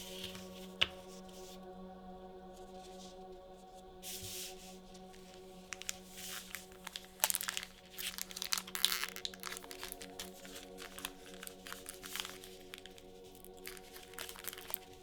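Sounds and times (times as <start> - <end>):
plastic packaging crinkling: 0.0 - 1.5, 4.2 - 15.0.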